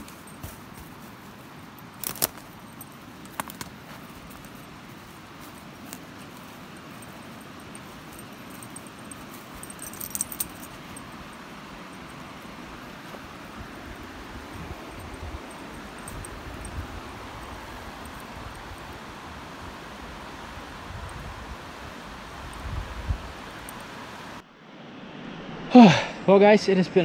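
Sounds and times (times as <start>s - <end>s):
river rushing: 0.0s - 24.6s.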